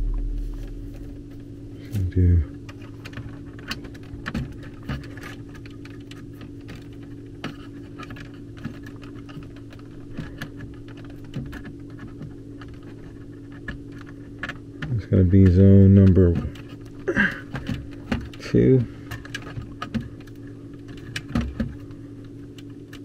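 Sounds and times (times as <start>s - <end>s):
steady low hum: 0.0s - 23.0s
wires clicking and scratching: 2.6s - 23.0s.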